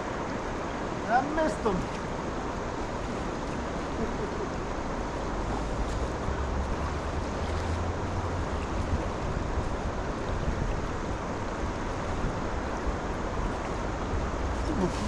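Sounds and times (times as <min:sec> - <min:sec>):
river water rushing: 0:00.0 - 0:15.0
wind rumble on microphone: 0:00.0 - 0:15.0.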